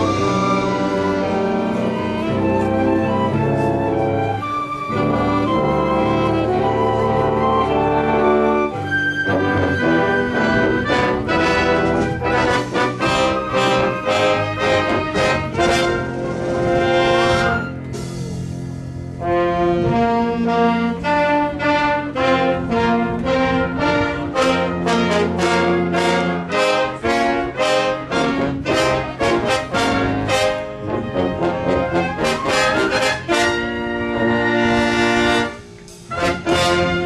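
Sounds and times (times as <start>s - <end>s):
brass band playing hymn tune: 0.0s - 37.0s.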